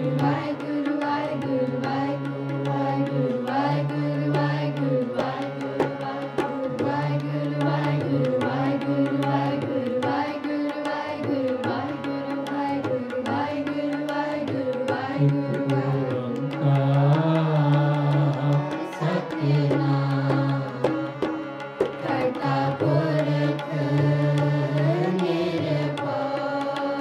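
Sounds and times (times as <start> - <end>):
person singing: 0.0 - 21.2, 21.9 - 27.0
harmonium chords: 0.0 - 27.0
tabla playing: 0.0 - 27.0.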